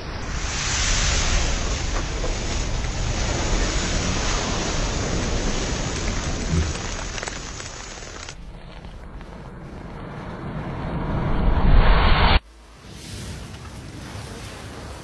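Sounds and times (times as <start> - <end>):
fire rushing: 0.0 - 15.0.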